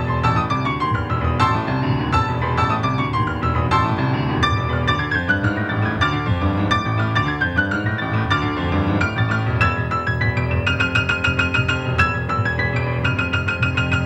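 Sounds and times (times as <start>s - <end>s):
fast grand piano piece: 0.0s - 14.0s.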